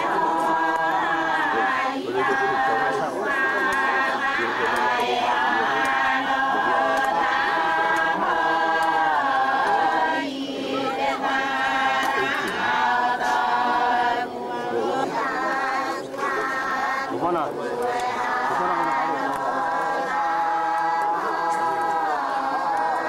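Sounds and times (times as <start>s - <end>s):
group singing unaccompanied: 0.0s - 23.0s.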